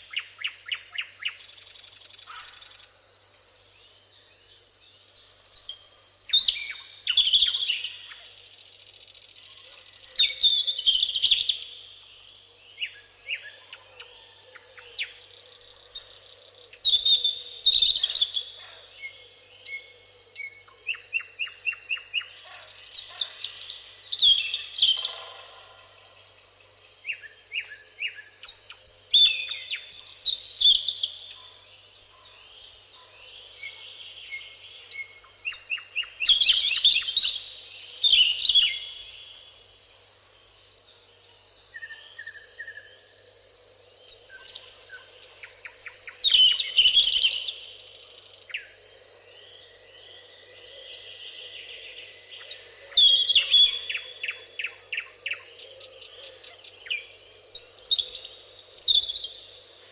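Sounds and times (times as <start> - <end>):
songbirds trilling: 3.8 - 59.9
high-pitched insect trill: 4.7 - 59.9.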